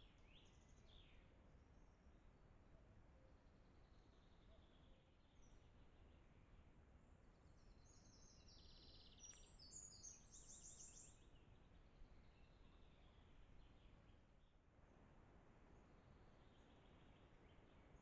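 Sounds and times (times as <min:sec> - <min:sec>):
low background hiss: 0:00.0 - 0:18.0.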